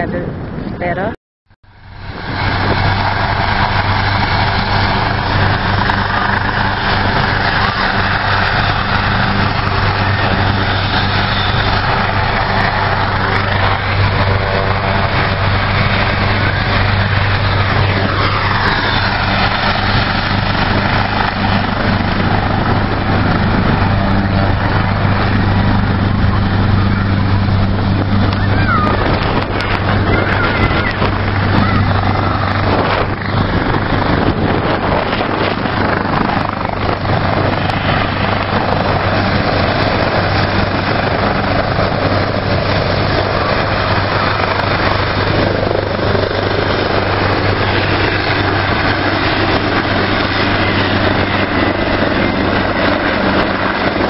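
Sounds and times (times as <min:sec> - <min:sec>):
helicopter engine whine: 0:00.0 - 0:54.0
helicopter turbine and rotor drone: 0:00.0 - 0:54.0.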